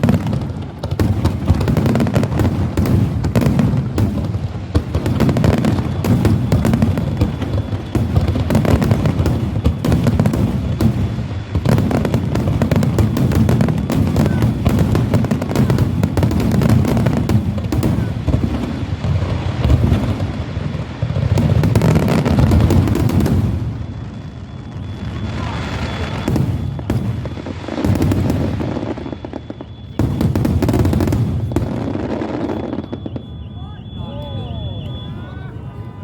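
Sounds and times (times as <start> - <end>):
fireworks booming and crackling: 0.0 - 36.0.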